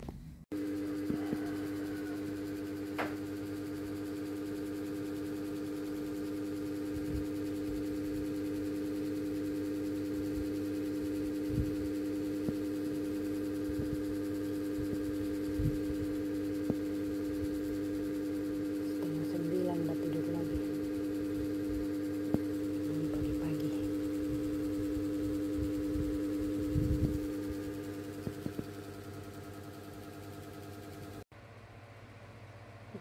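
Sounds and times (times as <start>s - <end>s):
electric fan motor hum: 0.0s - 33.0s.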